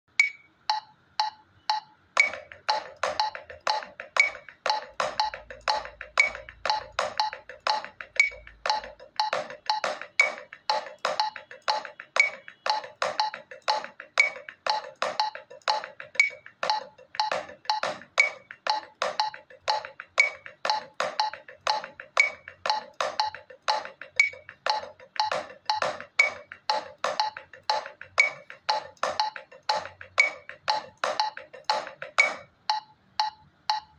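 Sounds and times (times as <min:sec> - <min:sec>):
metronome clicking: 0:00.1 - 0:33.9
drumsticks on practice pad: 0:00.2 - 0:33.9.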